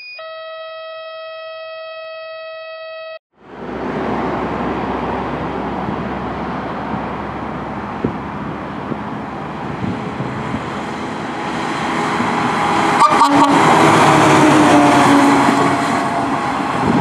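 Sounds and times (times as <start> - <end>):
road traffic: 3.3 - 17.0
fire engine diesel engine: 3.4 - 17.0.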